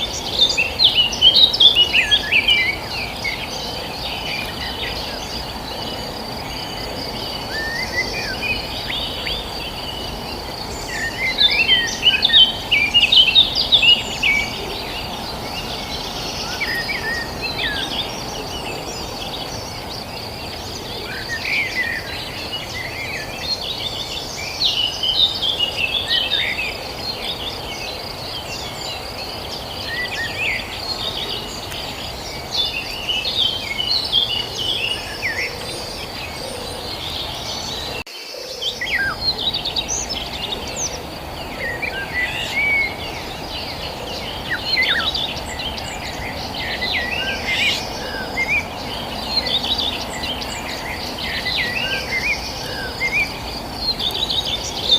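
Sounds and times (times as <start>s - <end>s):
insect trill: 0.0s - 54.9s
small birds chirping: 0.0s - 54.9s.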